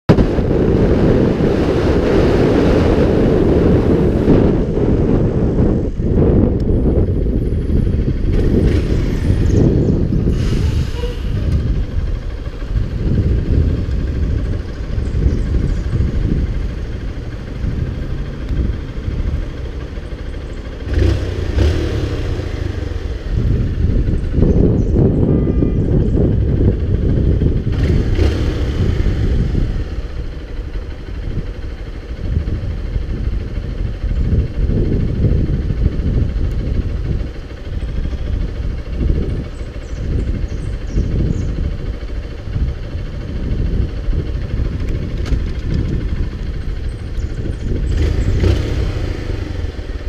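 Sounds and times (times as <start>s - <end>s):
motorcycle engine running: 0.1s - 50.0s
wind rumble on microphone: 0.1s - 50.0s.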